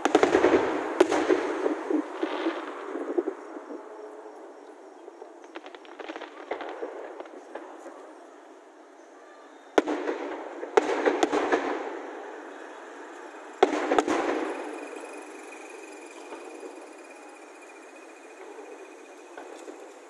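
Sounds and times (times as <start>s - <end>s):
fireworks bangs with echo: 0.0s - 4.0s, 4.8s - 8.3s, 9.6s - 20.0s
fireworks crackling: 0.0s - 8.8s, 9.7s - 20.0s.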